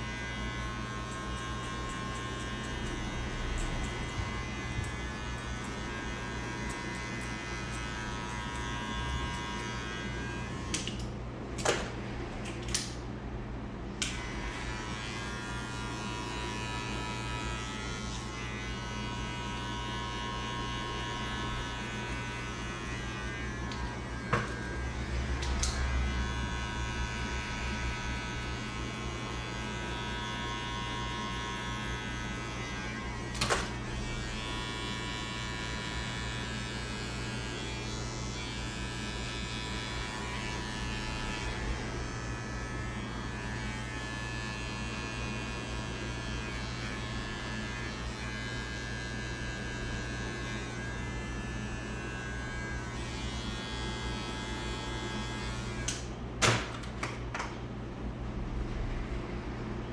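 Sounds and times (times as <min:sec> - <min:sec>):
electric hair clippers buzzing: 0:00.0 - 0:13.1, 0:14.0 - 0:57.0.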